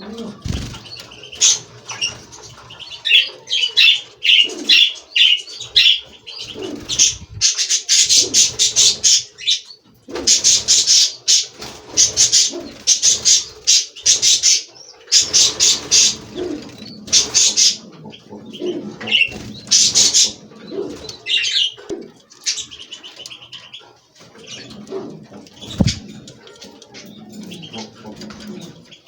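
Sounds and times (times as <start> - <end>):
finches twittering and trilling: 0.0 - 29.0.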